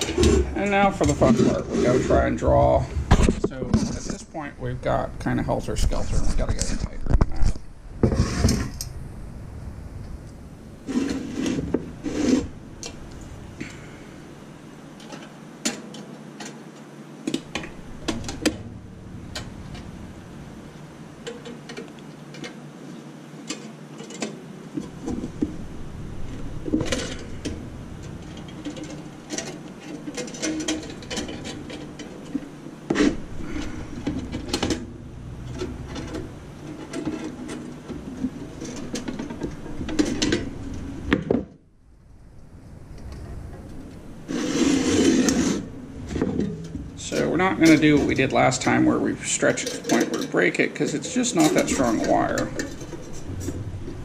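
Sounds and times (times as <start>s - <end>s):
wire scraping and rubbing: 0.0s - 4.3s, 5.9s - 9.0s, 10.8s - 16.6s, 17.3s - 41.1s, 42.3s - 54.0s.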